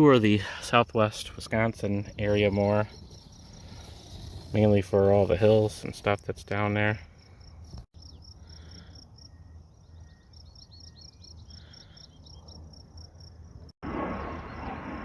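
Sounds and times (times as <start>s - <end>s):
crickets chirping: 0.4s - 4.6s, 5.4s - 13.8s.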